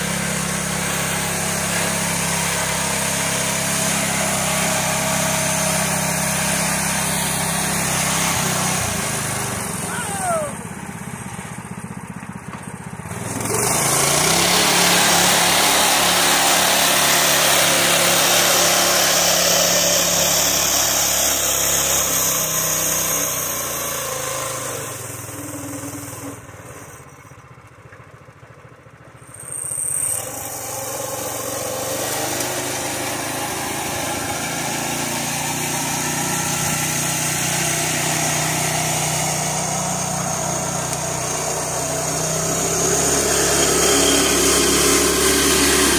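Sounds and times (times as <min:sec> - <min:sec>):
small engine running under load: 0:00.0 - 0:45.9.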